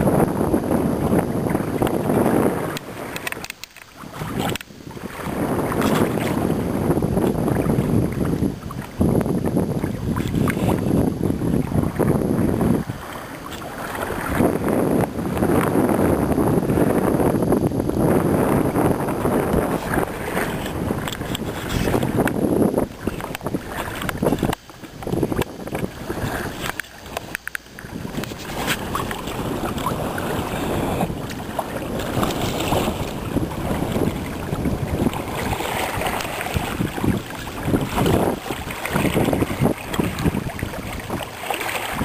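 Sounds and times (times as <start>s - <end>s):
water splashing along kayak hull: 0.0s - 42.0s
wind buffeting microphone: 0.0s - 42.0s.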